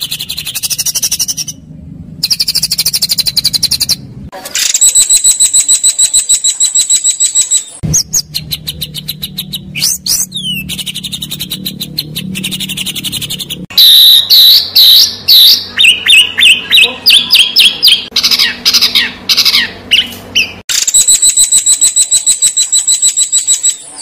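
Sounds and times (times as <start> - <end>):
songbird trilling: 0.0 - 1.6, 4.6 - 23.8.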